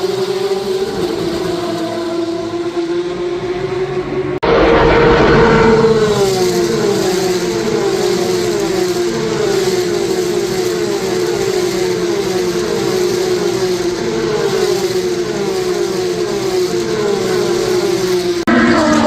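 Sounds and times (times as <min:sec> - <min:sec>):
racing car engine revving: 0:00.0 - 0:19.0.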